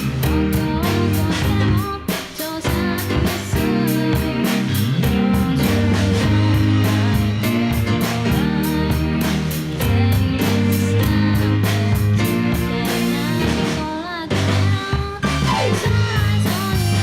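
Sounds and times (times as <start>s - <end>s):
band playing keyboard bass and drums: 0.0s - 17.0s.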